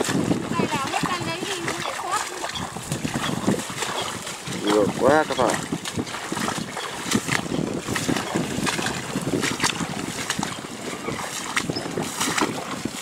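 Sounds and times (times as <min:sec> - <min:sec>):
wading through water sloshing: 0:00.0 - 0:13.0
wind buffeting microphone: 0:00.0 - 0:13.0.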